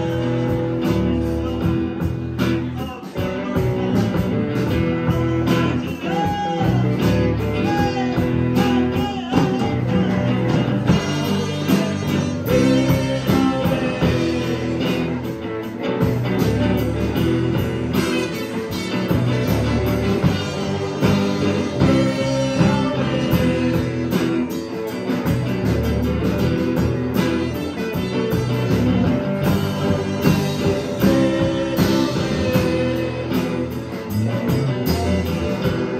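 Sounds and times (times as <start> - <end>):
bass guitar: 0.0 - 35.9
drum kit: 0.0 - 35.9
electric guitars: 0.0 - 35.9.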